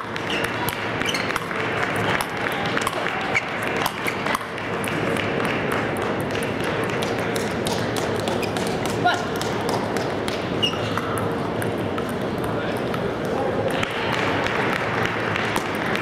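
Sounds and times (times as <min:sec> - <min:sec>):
crowd chatter in a large hall: 0:00.0 - 0:16.0
table tennis ball clicking: 0:00.1 - 0:14.0.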